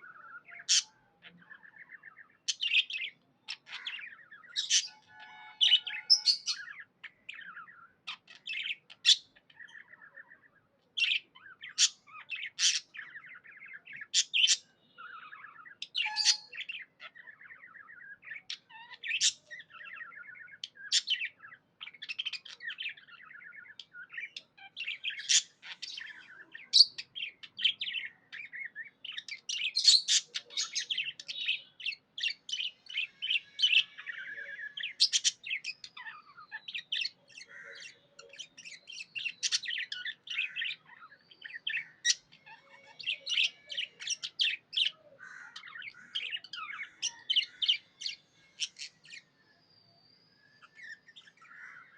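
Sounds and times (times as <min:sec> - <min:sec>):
budgies chirping and warbling: 0:00.0 - 0:51.9.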